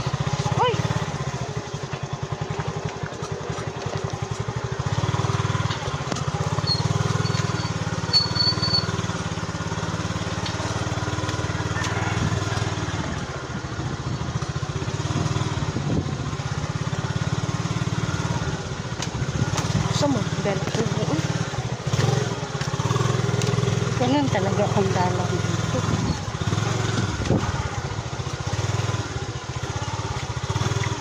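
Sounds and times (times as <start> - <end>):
small motorcycle engine running: 0.0 - 31.0.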